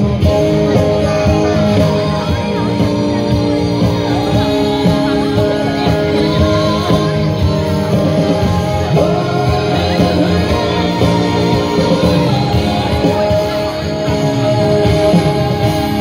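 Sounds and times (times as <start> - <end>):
duet singing into microphones: 0.0 - 16.0
instrumental backing: 0.0 - 16.0.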